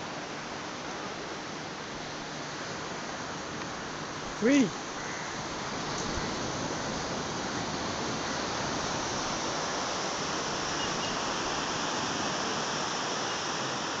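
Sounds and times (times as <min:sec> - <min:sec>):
sea surf breaking on beach: 0:00.0 - 0:14.0.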